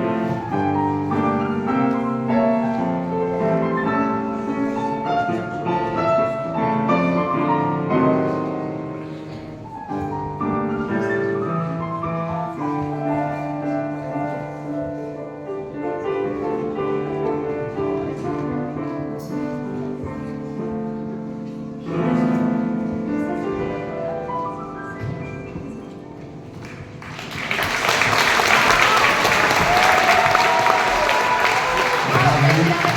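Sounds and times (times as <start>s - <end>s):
slow solo piano: 0.0s - 32.9s.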